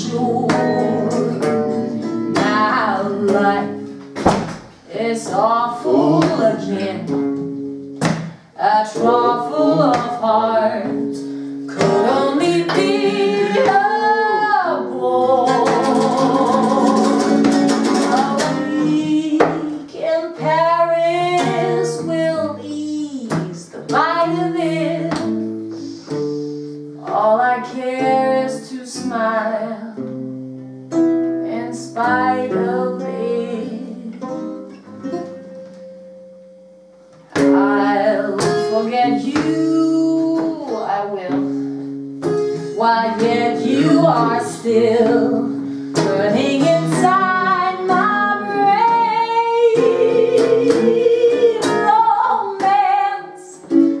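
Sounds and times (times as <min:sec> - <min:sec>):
woman singing jazz ballad: 0:00.0 - 0:04.0, 0:04.8 - 0:07.5, 0:08.5 - 0:17.4, 0:18.0 - 0:30.1, 0:31.3 - 0:34.6, 0:37.4 - 0:41.8, 0:42.6 - 0:53.8
acoustic guitar jazz chords: 0:00.0 - 0:54.0.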